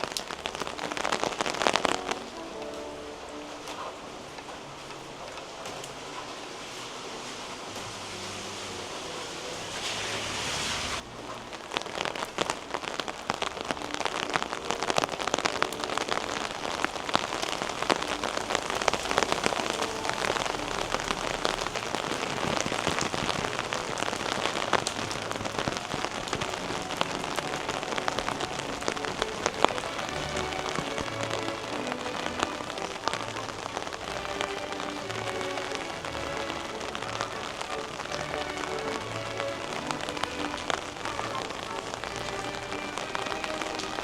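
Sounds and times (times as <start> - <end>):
dense close raindrop hits: 0.0 - 44.0
rain pattering on umbrella: 0.0 - 44.0.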